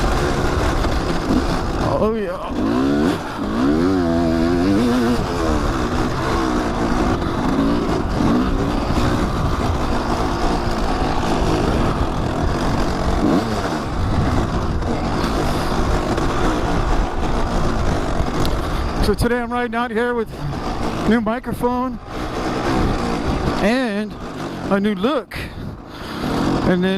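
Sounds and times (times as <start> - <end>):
dirt bike engine revving: 0.0 - 26.9
strong rushing noise: 0.0 - 26.9.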